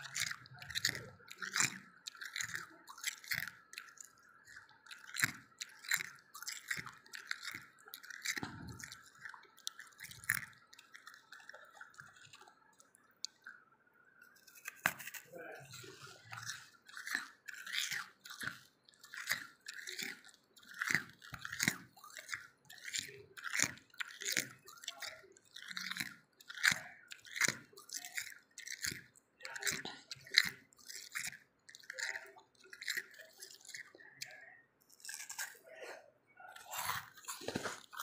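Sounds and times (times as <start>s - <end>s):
person chewing crunchy ice: 0.0s - 38.0s.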